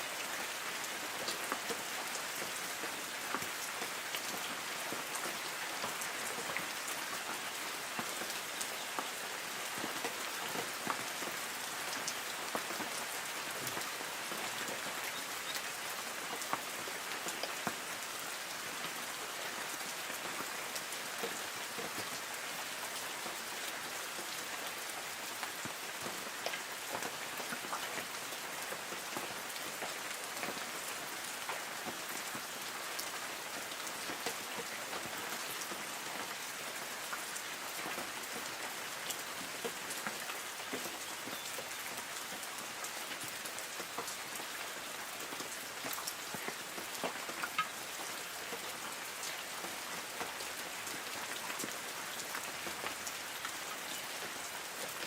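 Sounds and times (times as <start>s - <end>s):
rain dripping on leaves: 0.0s - 55.0s.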